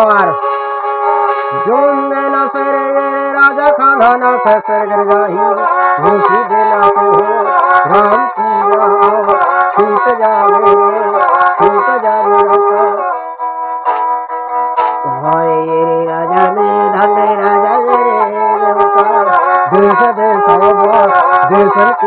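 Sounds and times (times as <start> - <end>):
bowed fiddle melody: 0.0 - 22.0.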